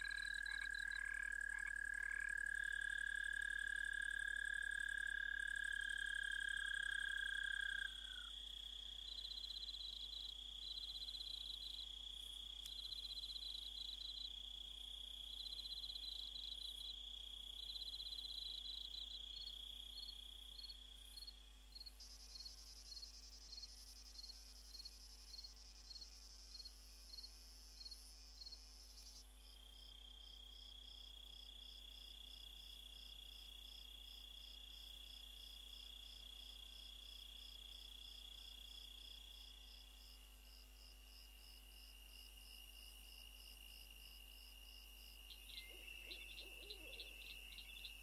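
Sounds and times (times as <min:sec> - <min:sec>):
insects chirping: 0:00.0 - 0:48.0.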